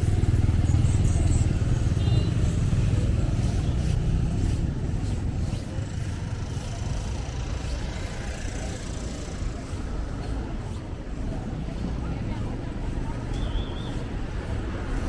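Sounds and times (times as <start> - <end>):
low rumble of passing vehicles: 0.0 - 15.0.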